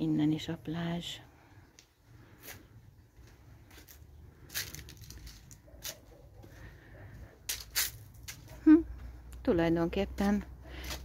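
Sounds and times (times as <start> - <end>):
footsteps on concrete path: 1.6 - 11.0.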